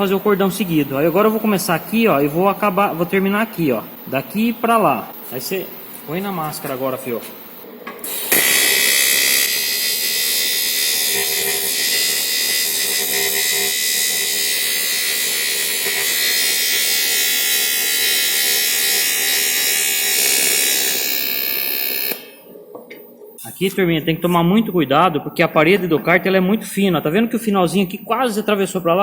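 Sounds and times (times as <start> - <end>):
welding arc buzzing hiss: 0.0 - 24.5.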